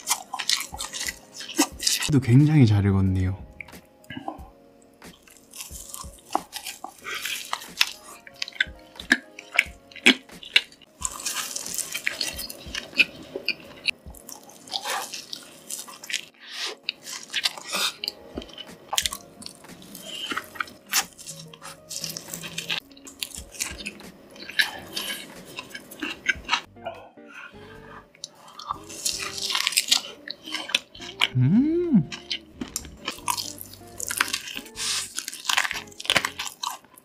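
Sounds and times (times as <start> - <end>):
crunching and chewing: 0.0 - 2.1, 5.1 - 26.7, 27.3 - 31.4, 32.1 - 37.0
wet mouth sounds: 0.0 - 2.1, 5.1 - 27.0, 28.2 - 37.0.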